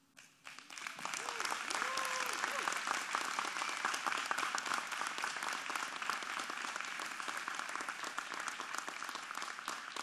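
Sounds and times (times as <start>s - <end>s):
crowd applauding: 0.2s - 10.0s.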